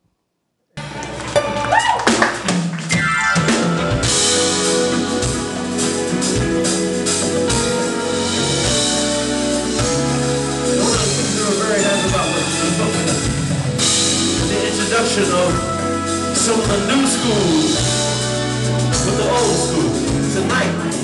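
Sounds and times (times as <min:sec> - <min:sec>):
band music with drums and guitar: 0:00.8 - 0:21.0.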